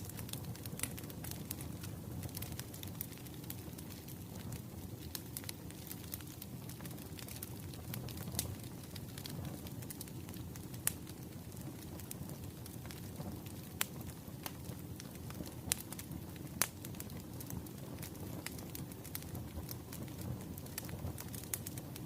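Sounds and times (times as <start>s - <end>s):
firewood crackling and popping: 0.0s - 22.0s
flames rumbling: 0.0s - 22.0s.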